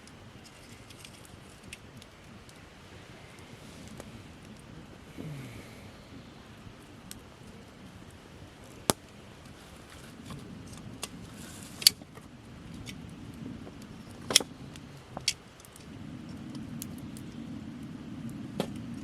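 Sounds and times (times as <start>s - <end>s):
campfire crackling and popping: 0.0s - 19.0s
low rushing fire noise: 0.0s - 19.0s.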